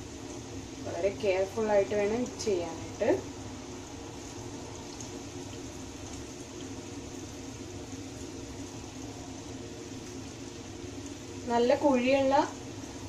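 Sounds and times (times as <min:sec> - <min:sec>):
oil sizzling and bubbling: 0:00.0 - 0:13.0.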